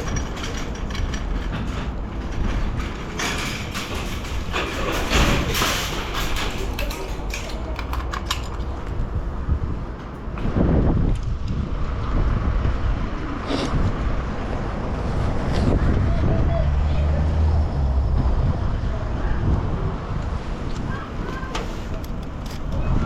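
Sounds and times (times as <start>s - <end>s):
rushing wind: 0.0s - 23.0s
wind buffeting microphone: 0.0s - 23.0s.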